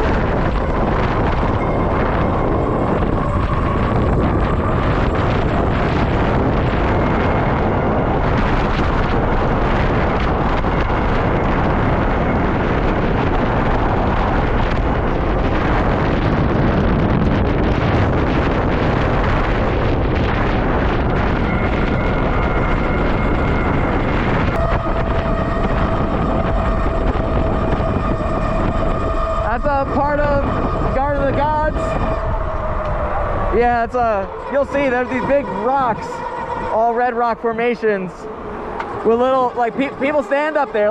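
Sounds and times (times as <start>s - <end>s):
steady whine: 0.0s - 40.9s
wind buffeting microphone: 0.0s - 40.9s.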